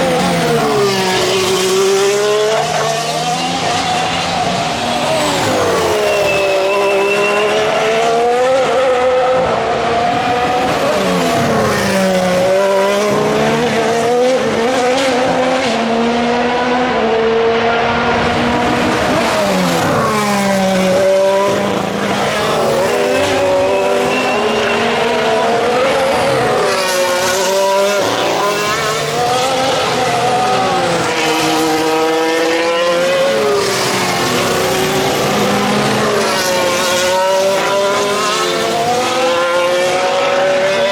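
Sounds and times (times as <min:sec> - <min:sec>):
racing car engines: 0:00.0 - 0:40.9.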